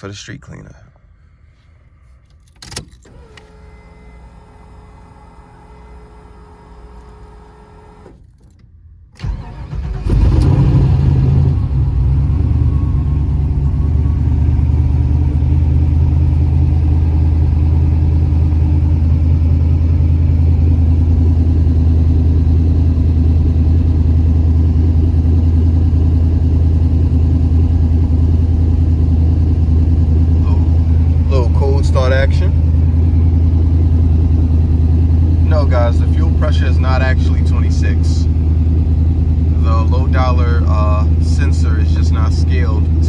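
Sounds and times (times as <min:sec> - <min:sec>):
car engine idling: 0:00.0 - 0:08.1, 0:09.2 - 0:43.0
car engine cranking: 0:02.2 - 0:43.0.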